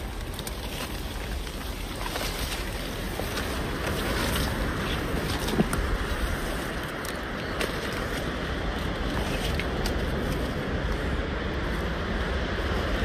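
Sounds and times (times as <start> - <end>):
crunches and snaps underfoot: 0.0 - 10.9
boot footsteps on forest trail: 0.0 - 11.1.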